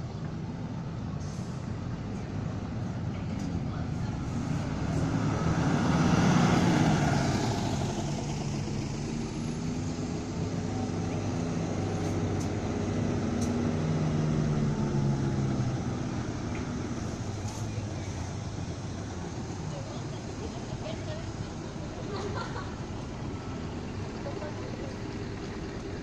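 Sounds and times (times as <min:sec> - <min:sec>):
city bus engines humming: 0:00.0 - 0:26.0.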